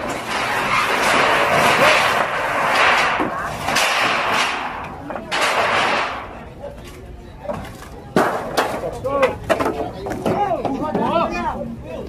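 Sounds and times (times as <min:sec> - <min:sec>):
timber clattering and cracking: 0:00.0 - 0:10.8.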